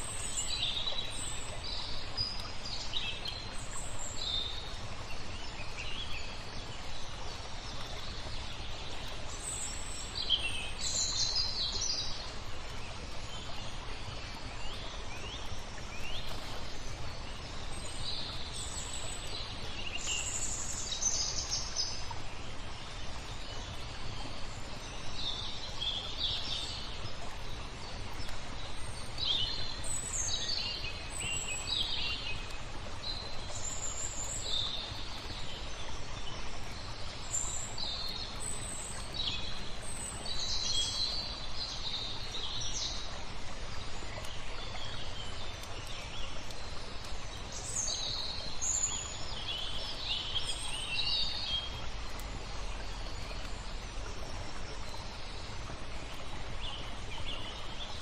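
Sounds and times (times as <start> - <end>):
flowing water hiss: 0.0 - 58.0.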